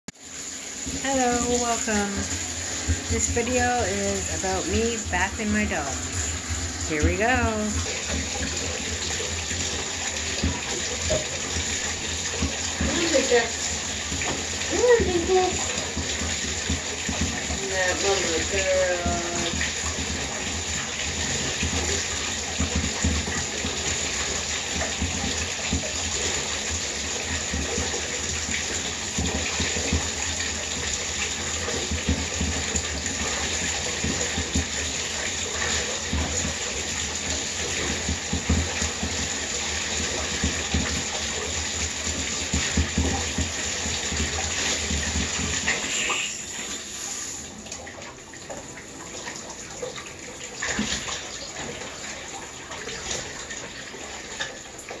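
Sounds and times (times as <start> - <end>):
water running into a bathtub: 0.1 - 55.0
water splashing: 0.1 - 55.0.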